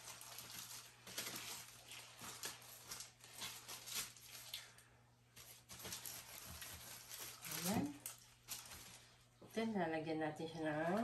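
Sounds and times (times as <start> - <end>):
foil crinkling: 0.0 - 9.4, 10.7 - 11.0.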